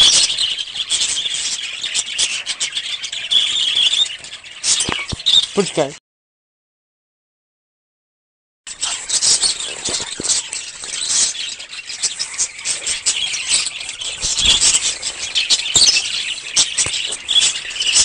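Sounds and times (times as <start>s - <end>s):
birds chirping: 0.0s - 6.0s, 8.7s - 18.0s.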